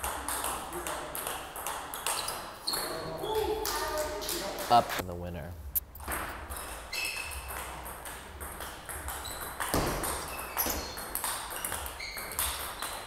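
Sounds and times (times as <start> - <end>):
table tennis ball pinging: 0.0 - 3.6, 6.0 - 13.0.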